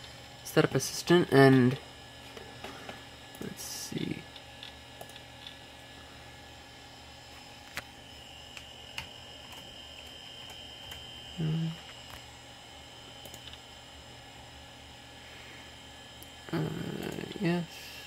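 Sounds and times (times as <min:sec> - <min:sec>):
computer fan hum: 0:00.0 - 0:18.0.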